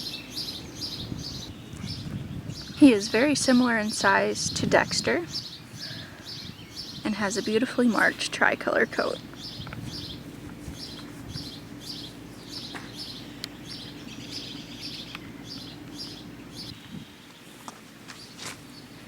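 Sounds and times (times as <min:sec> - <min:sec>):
songbird chirping: 0:00.0 - 0:19.0
steady low hum: 0:00.0 - 0:19.0.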